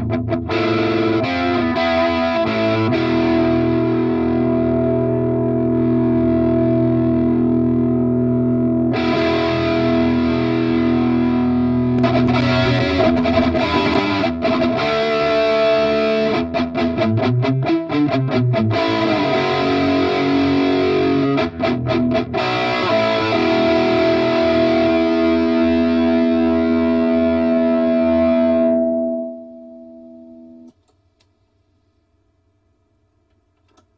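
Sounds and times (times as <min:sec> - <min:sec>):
electric guitar playing: 0:00.0 - 0:30.7.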